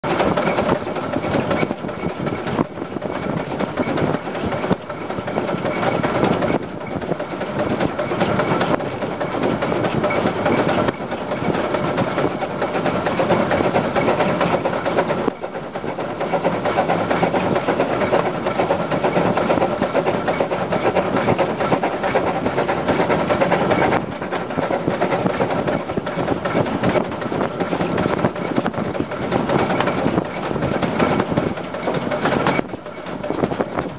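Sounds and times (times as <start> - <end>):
steam locomotive running on rails: 0.0 - 33.9.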